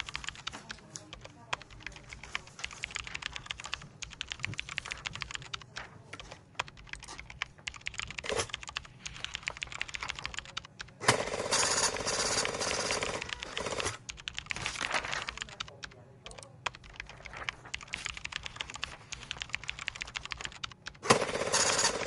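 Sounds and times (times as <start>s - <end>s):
fast typing on keyboard: 0.0s - 22.0s.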